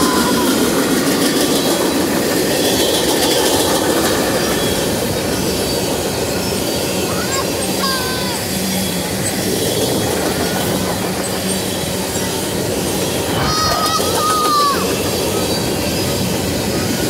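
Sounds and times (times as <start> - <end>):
freight train rumbling over rails: 0.0 - 17.0
train wheel squeals: 0.0 - 17.0.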